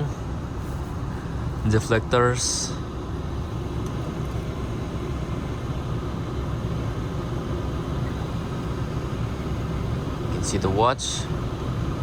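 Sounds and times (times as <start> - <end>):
car engine idling: 0.0 - 12.0
climate fan blowing air: 0.0 - 12.0.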